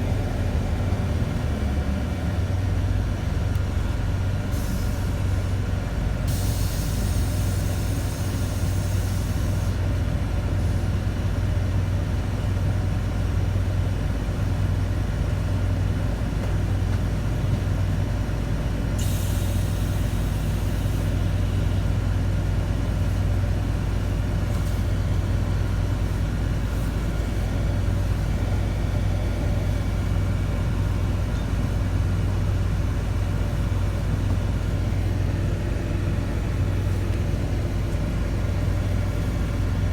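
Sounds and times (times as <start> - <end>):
bus engine humming: 0.0 - 39.9.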